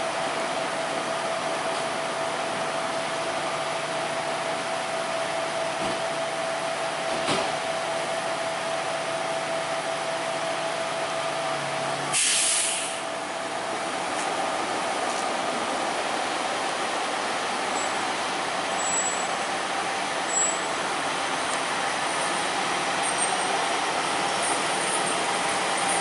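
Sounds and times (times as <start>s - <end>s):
heavy vehicles idling: 0.0s - 26.0s.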